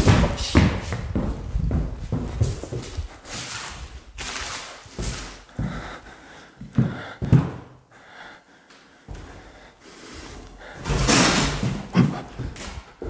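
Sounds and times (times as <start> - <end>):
footsteps on wooden floor: 0.0 - 7.8, 8.6 - 13.0.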